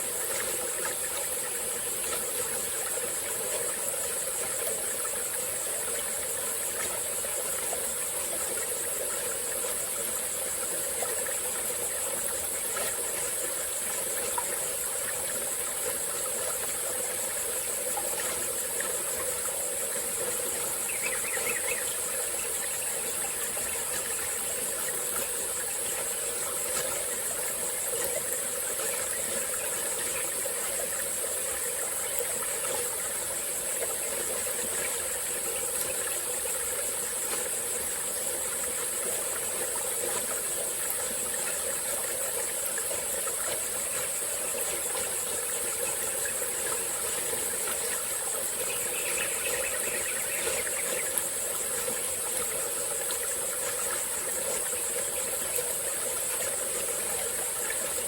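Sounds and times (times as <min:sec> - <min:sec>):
insects droning: 0:00.0 - 0:58.0
stream trickling: 0:00.0 - 0:58.0.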